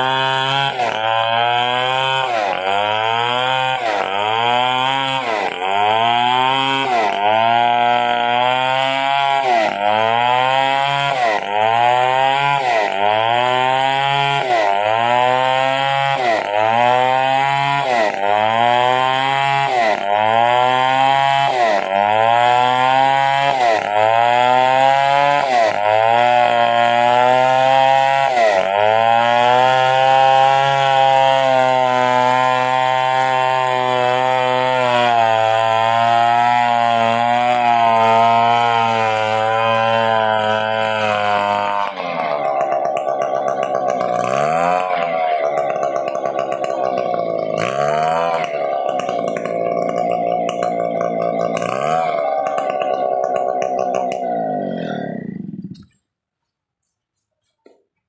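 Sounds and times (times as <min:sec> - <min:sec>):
chainsaw cutting log: 0:00.0 - 0:57.9.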